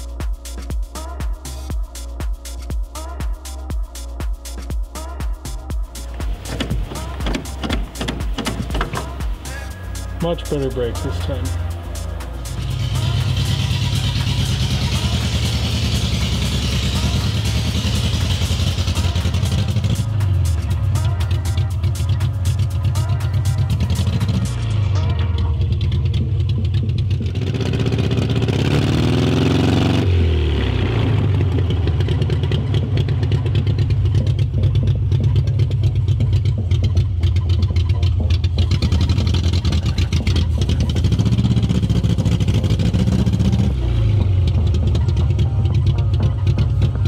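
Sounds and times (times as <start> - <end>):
car engine running: 4.9 - 47.0.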